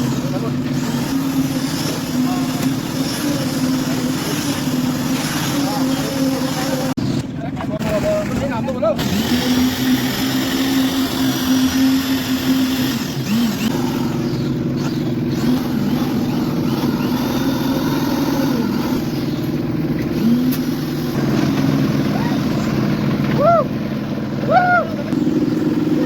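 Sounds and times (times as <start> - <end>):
machine engine humming: 0.0 - 26.0.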